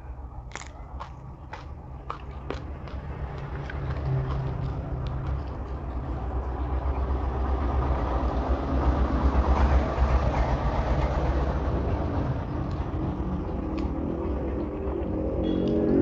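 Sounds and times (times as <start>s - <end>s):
passing vehicle rumble: 0.0s - 16.0s.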